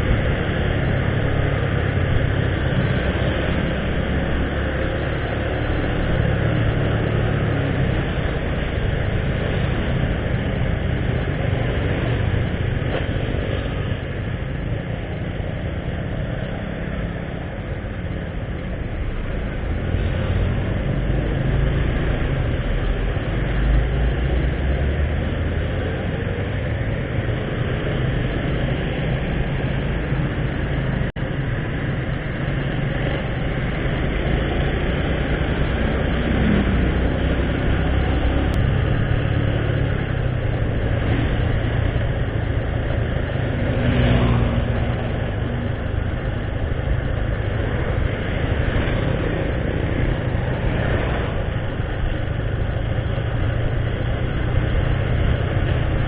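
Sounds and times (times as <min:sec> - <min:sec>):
motorbike engine: 0:00.0 - 0:56.0
wind rumble on microphone: 0:00.0 - 0:56.0.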